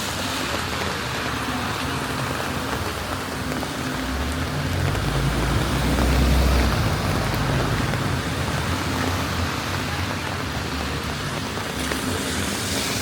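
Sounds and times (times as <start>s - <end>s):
rain falling on street: 0.0s - 13.0s
vehicle passing rumble: 1.1s - 13.0s.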